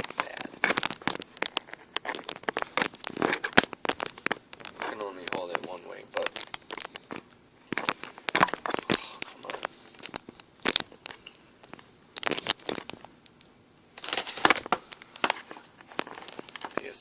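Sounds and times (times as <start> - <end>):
close rustling and clicking: 0.0 - 17.0.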